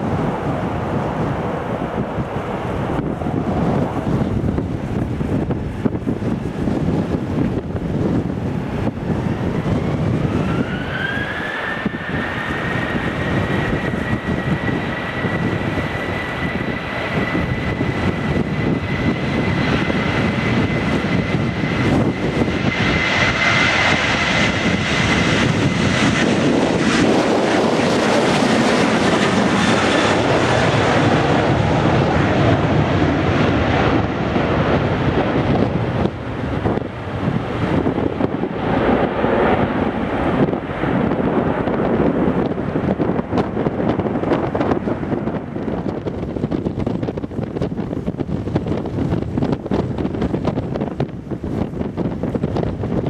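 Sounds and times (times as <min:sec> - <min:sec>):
wind buffeting microphone: 0:00.0 - 0:53.0
jet engines spooling up: 0:08.5 - 0:51.0.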